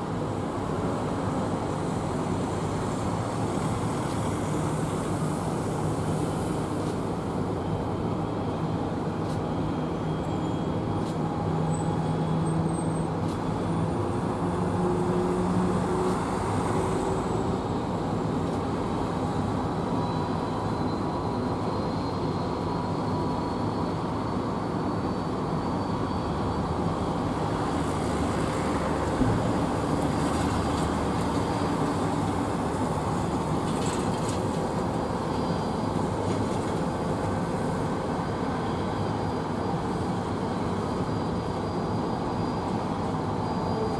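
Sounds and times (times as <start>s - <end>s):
airfield background noise: 0.0s - 43.9s.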